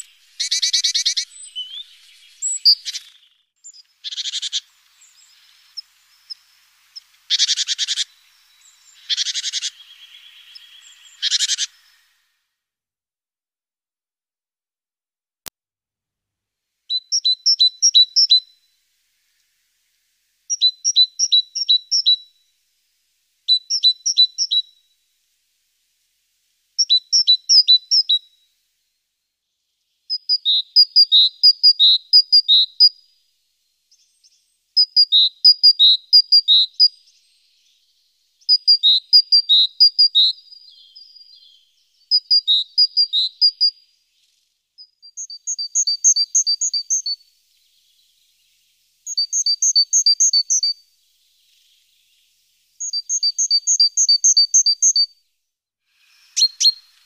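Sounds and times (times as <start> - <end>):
songbird singing: 0.0 - 12.4, 16.9 - 57.0.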